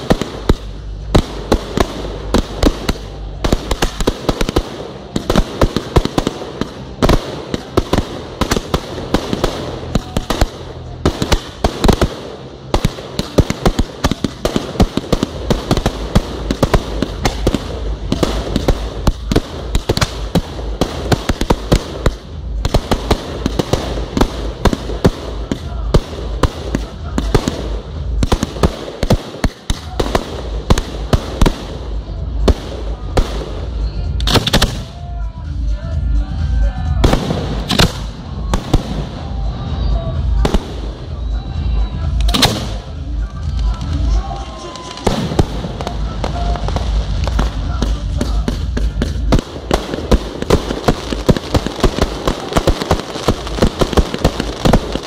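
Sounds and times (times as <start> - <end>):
fireworks barrage: 0.0 - 55.0.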